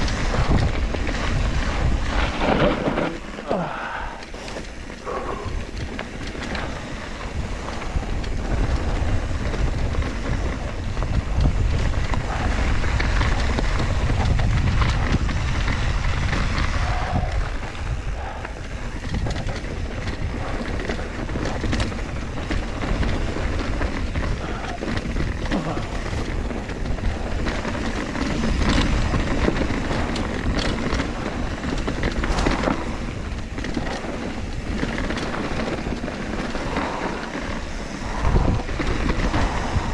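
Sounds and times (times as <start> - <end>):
bike knocks and rattles: 0.0 - 39.9
bike tyre rumble: 0.0 - 39.9
wind on microphone: 0.0 - 39.9.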